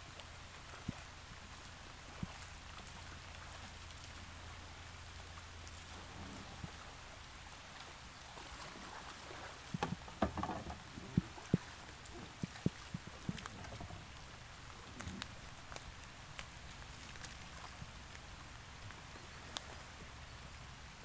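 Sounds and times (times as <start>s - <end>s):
light rain pattering on water: 0.0s - 21.0s
paddle splashes: 0.0s - 21.0s.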